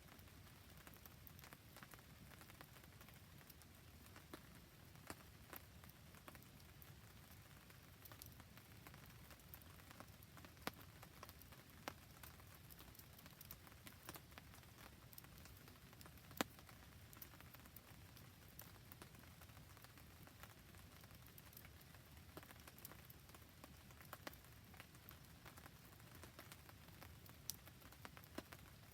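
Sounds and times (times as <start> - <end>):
campfire crackles and pops: 0.0 - 28.9
rain patter: 0.0 - 28.9.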